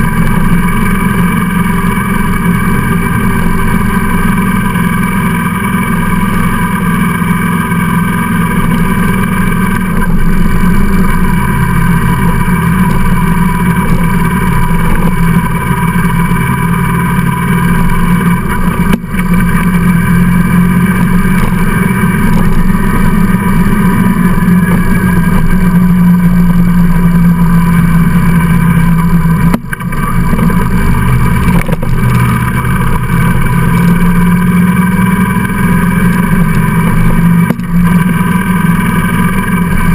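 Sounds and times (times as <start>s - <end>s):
road noise: 0.0s - 39.9s
vehicle engine: 0.0s - 39.9s.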